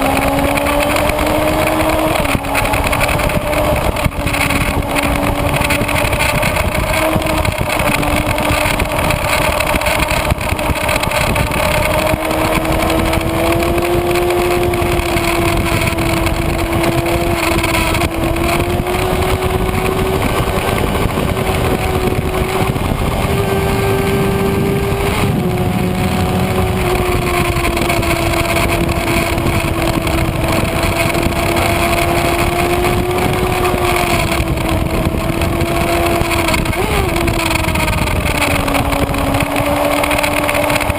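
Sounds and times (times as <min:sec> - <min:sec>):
motorcycle engine at high revs: 0:00.0 - 0:40.9
wind rush over microphone: 0:00.0 - 0:40.9.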